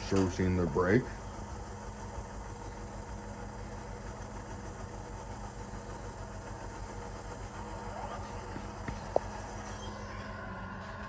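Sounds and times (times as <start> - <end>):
diesel engine through small speaker: 0.0 - 11.0.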